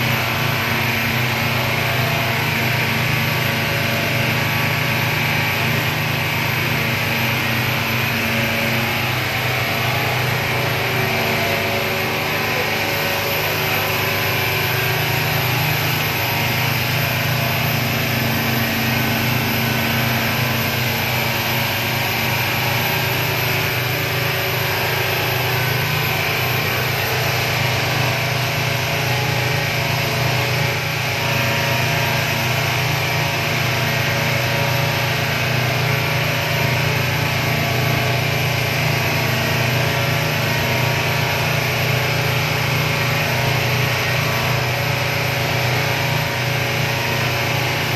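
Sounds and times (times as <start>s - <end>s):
motorboat engine running: 0.0s - 47.9s.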